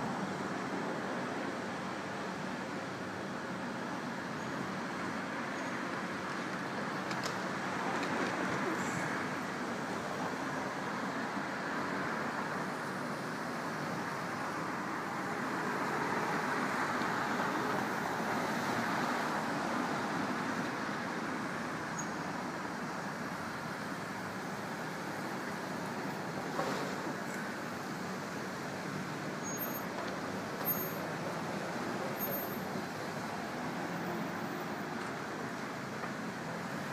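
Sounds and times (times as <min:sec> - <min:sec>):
city street traffic: 0:00.0 - 0:36.9.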